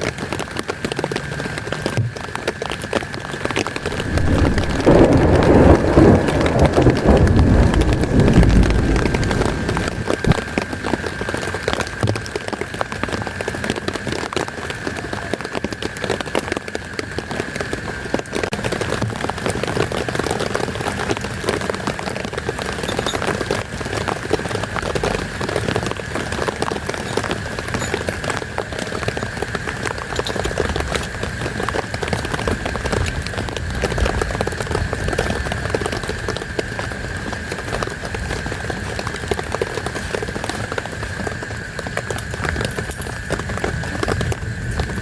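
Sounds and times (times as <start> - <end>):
heavy rain pattering: 0.0 - 45.0.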